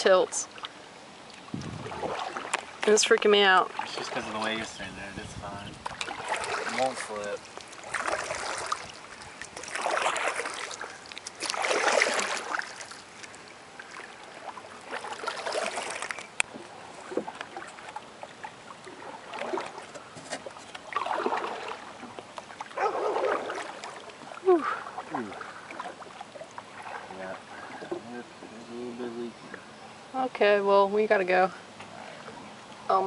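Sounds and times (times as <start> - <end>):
paddle splashing in water: 0.0 - 4.9, 5.8 - 28.6
water trickling: 0.0 - 33.0.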